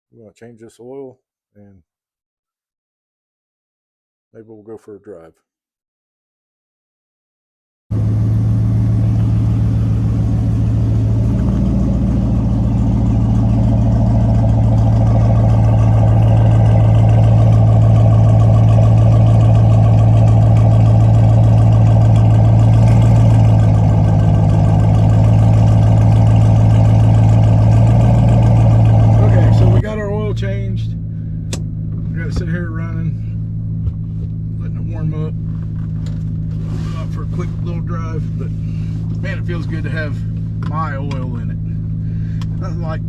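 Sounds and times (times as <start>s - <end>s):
car engine idling: 7.9s - 43.0s.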